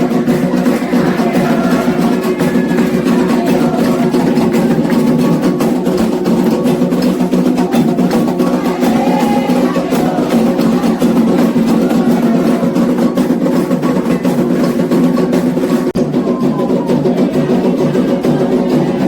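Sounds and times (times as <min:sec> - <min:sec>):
hand drums playing fast rhythm: 0:00.0 - 0:19.0
voices singing: 0:00.0 - 0:19.0.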